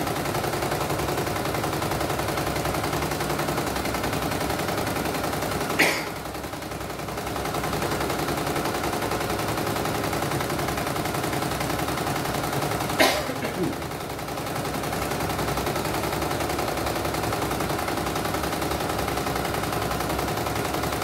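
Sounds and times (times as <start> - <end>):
embroidery machine stitching: 0.0 - 21.0.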